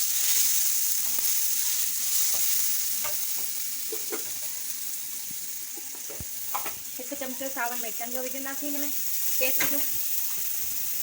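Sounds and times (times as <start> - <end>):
sizzling in hot oil: 0.0 - 11.0.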